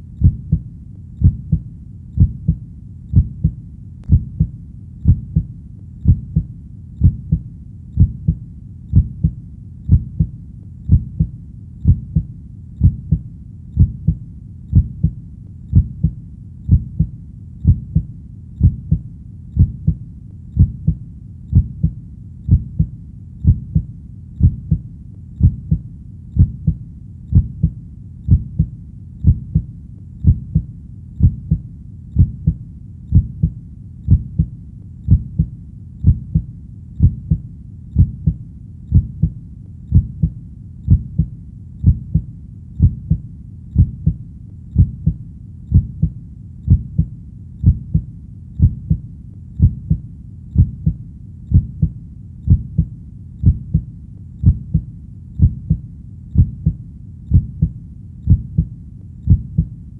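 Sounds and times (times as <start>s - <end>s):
human heartbeat: 0.0s - 59.8s.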